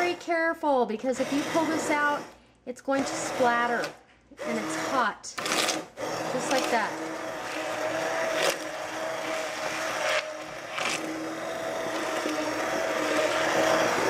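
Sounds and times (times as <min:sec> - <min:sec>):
stick blender whining: 0:00.0 - 0:00.4, 0:01.0 - 0:14.0.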